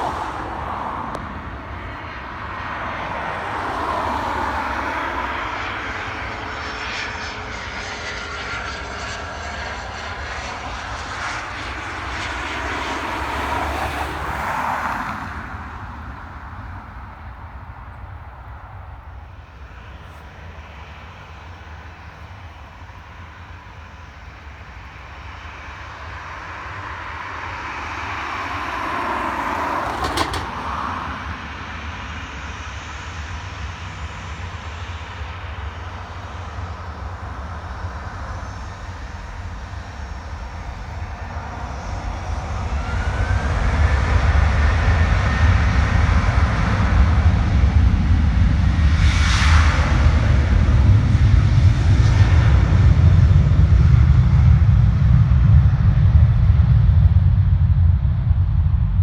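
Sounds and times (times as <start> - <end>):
aircraft engines passing: 0.0 - 59.0.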